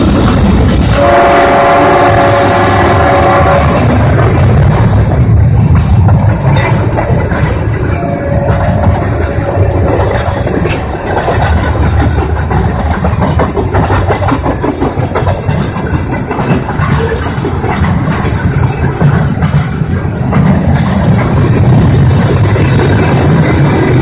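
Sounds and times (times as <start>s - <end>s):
freight train rumbling: 0.0s - 24.0s
wheels clicking over rail joints: 0.0s - 24.0s.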